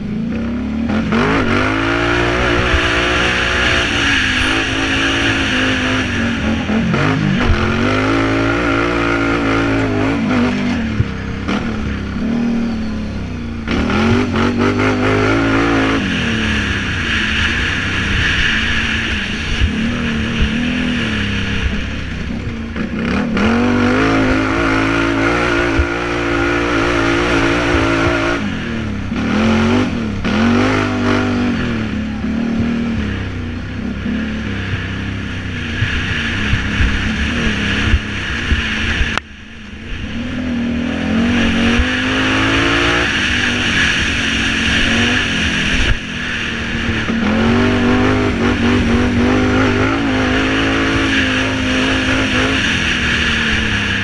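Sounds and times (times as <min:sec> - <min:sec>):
quad engine revving: 0:00.0 - 0:39.3, 0:39.9 - 0:54.0.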